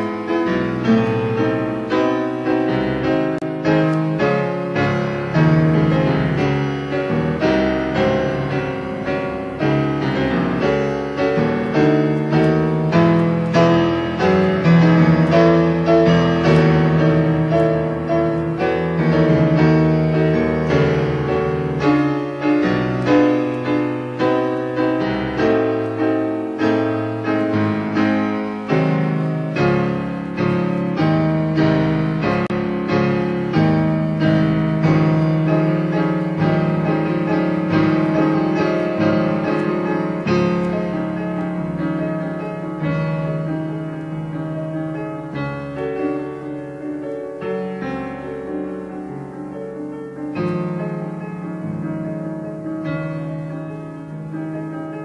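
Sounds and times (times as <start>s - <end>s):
solo piano playing: 0.0s - 55.0s.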